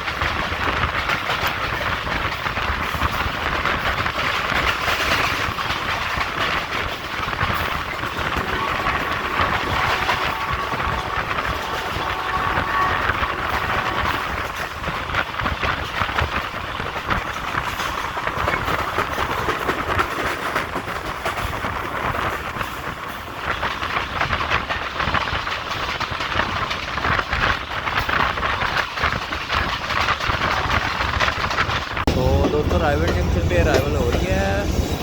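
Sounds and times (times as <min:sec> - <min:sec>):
clatter over rail joints: 0:00.0 - 0:35.0
train wheels rumbling on rails: 0:00.0 - 0:35.0.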